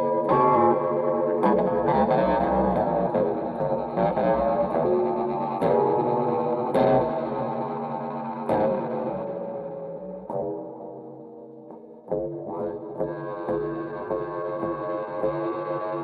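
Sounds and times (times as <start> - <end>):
distorted plucked string notes: 0.0 - 16.0.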